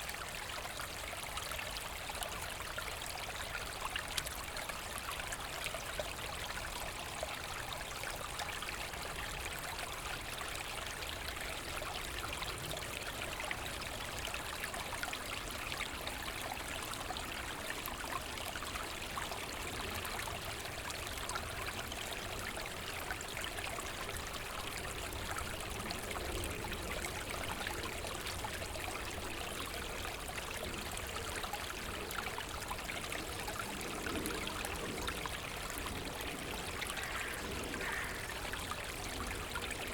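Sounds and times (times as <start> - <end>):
brook flowing over stones: 0.0 - 39.9.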